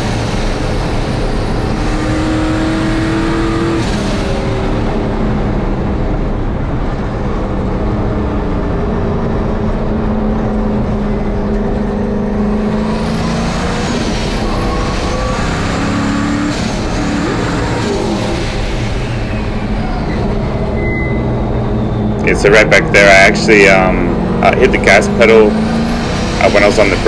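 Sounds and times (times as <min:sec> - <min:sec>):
race truck engine running hard: 0:00.0 - 0:27.0.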